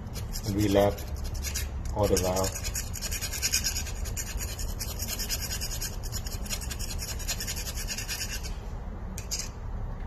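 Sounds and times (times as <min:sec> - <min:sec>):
hand tool scraping metal: 0:00.0 - 0:08.6, 0:09.2 - 0:09.6.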